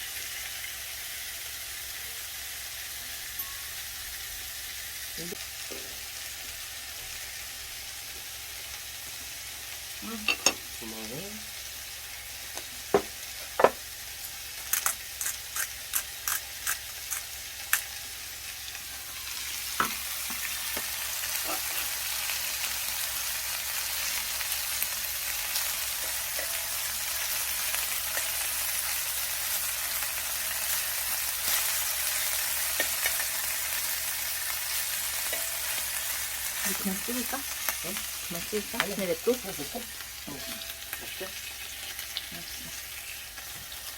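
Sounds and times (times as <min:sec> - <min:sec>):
beef sizzling in a frying pan: 0:00.0 - 0:43.9.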